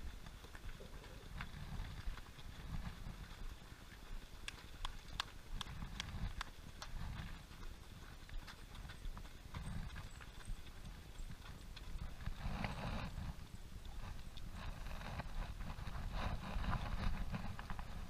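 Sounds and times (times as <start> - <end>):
running shoes slapping asphalt: 0.0 - 18.0.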